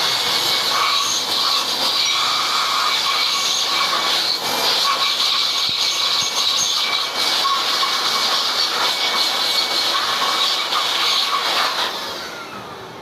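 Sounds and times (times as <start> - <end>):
high squealing tones: 0.0 - 12.7
machine loud hiss: 0.0 - 13.0.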